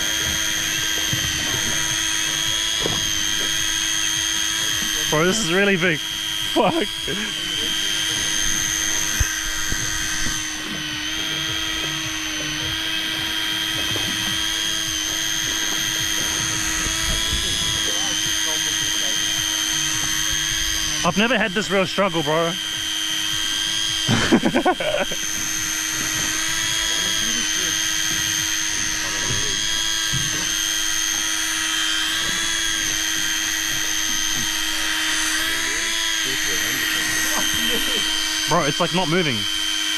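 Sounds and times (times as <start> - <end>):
fishing reel motor whining: 0.0 - 39.9.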